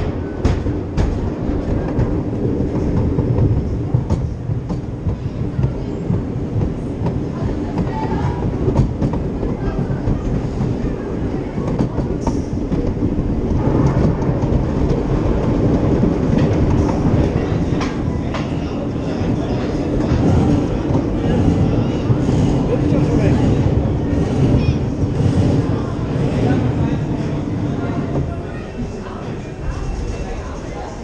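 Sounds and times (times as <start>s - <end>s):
roller coaster wheels rumbling: 0.0s - 31.0s.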